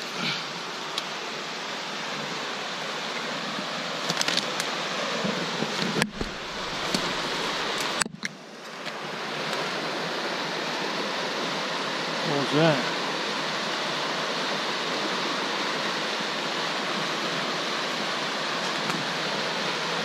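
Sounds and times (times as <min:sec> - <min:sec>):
fast-flowing river rushing: 0:00.0 - 0:20.0.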